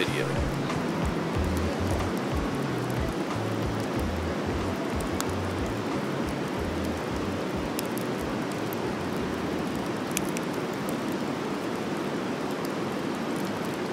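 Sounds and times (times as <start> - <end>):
campfire crackling and popping: 0.0 - 13.9
river water rushing: 0.0 - 13.9.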